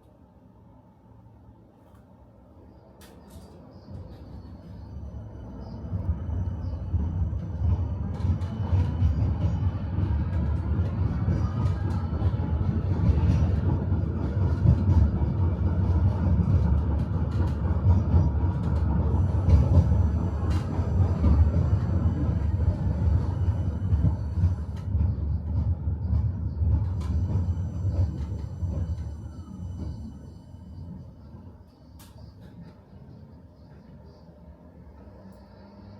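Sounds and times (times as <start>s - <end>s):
tram rumbling on rails: 0.0s - 35.9s.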